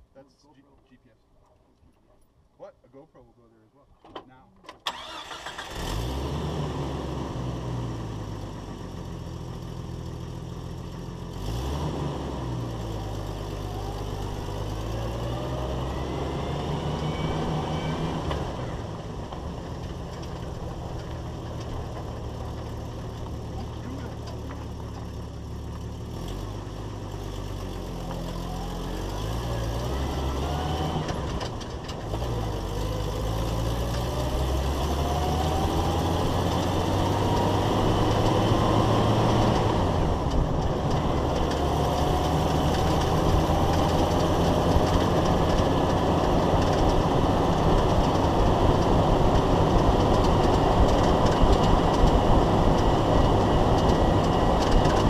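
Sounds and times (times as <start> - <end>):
road noise: 3.4 - 55.0
car engine accelerating: 4.9 - 55.0
drivetrain whine: 4.9 - 55.0.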